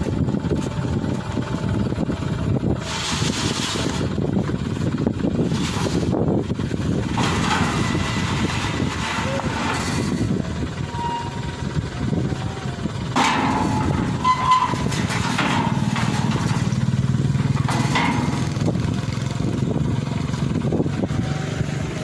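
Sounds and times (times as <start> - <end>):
engine running: 0.0 - 22.0
metal ramps clanking: 2.8 - 11.6, 13.1 - 22.0.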